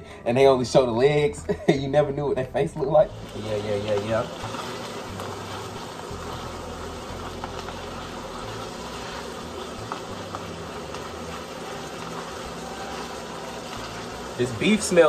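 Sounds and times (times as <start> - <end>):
meat sizzling in a skillet: 2.7 - 15.0.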